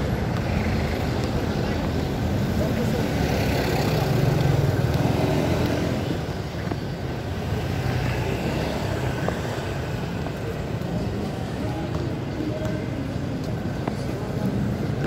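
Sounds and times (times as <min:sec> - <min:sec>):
motor vehicles passing: 0:00.0 - 0:15.0.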